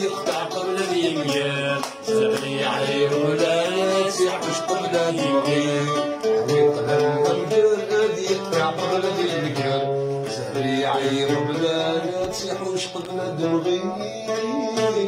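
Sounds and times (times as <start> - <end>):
man singing: 0.0 - 15.0
plucked lute: 0.0 - 15.0.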